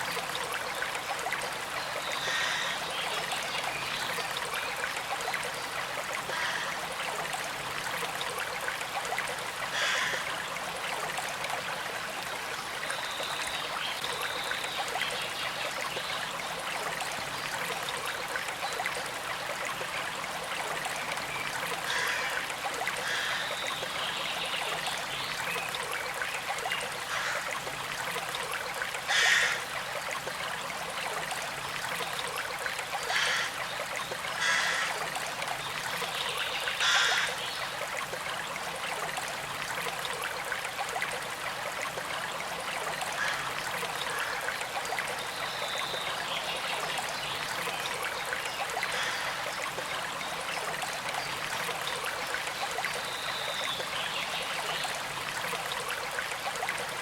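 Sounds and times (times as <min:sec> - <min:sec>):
creek trickling: 0:00.0 - 0:57.0.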